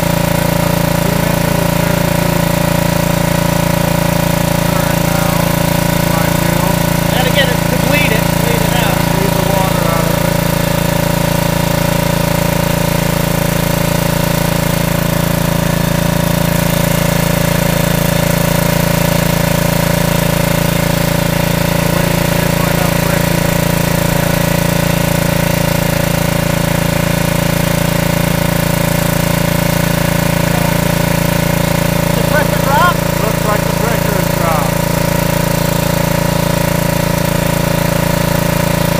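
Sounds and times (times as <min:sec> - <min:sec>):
engine and generator humming: 0:00.0 - 0:38.9.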